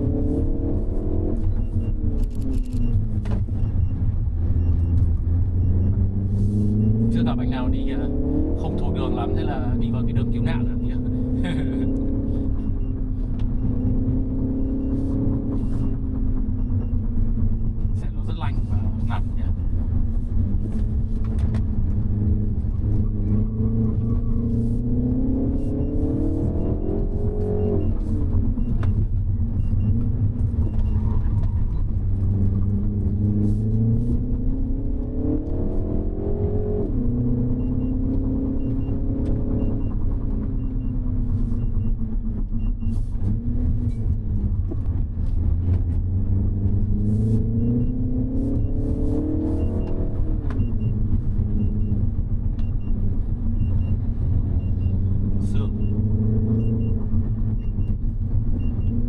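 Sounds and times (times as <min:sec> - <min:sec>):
car engine revving: 0:00.0 - 0:59.0
low road rumble: 0:00.0 - 0:59.0.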